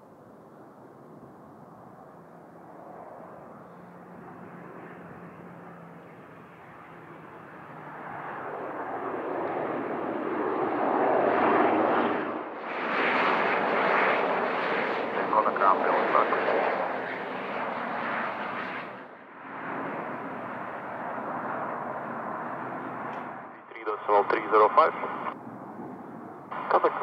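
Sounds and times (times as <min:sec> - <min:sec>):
turboprop engines and propellers: 0:00.0 - 0:27.0.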